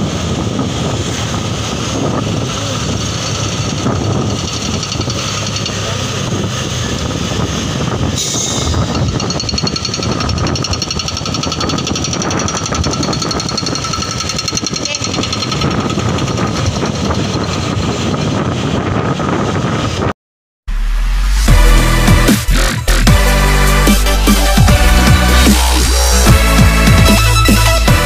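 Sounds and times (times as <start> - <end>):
vehicle engine pulsing: 0.0 - 20.1, 21.2 - 28.0
road and wind noise: 0.0 - 28.0.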